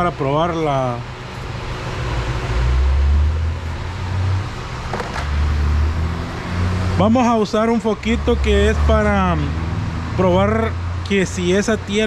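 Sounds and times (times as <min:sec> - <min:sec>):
radiator cooling fans whooshing: 0:00.0 - 0:12.0.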